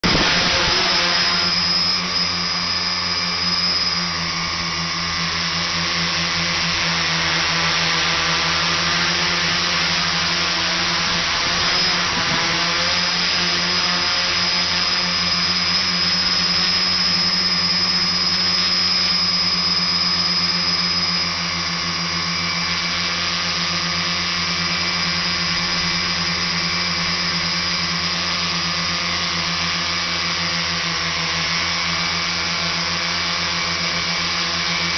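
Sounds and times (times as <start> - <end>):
drone motors buzzing: 0.0 - 34.9.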